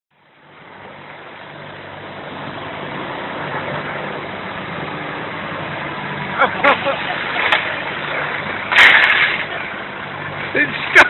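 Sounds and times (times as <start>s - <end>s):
vehicle engine idling: 0.1s - 11.0s.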